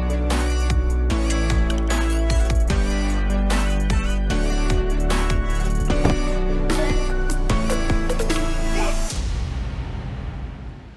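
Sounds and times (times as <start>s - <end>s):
background music with kick drum beat: 0.0s - 10.0s.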